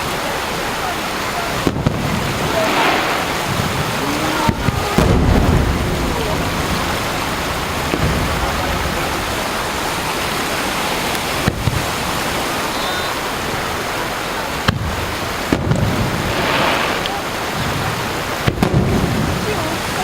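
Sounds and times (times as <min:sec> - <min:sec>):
surf washing onto beach: 0:00.0 - 0:20.0.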